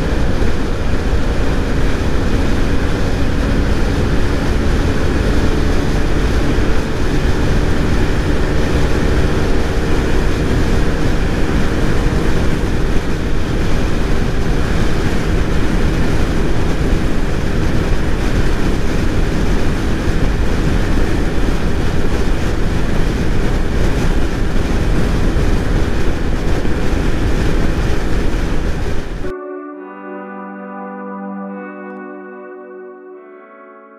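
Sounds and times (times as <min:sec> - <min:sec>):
scooter engine at full throttle: 0:00.0 - 0:29.3
wind rush on microphone: 0:00.0 - 0:29.3.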